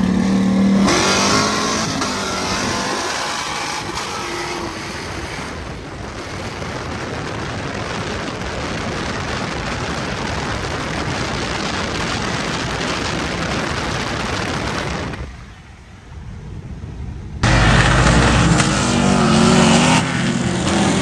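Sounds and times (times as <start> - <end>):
vehicle rushing at speed: 0.0 - 15.4, 17.2 - 21.0.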